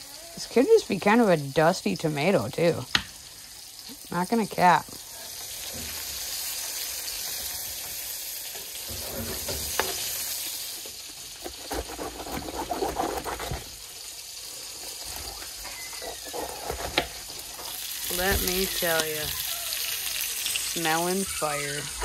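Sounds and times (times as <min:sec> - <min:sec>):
burger patties sizzling in a pan: 0:00.0 - 0:11.5, 0:13.6 - 0:22.0.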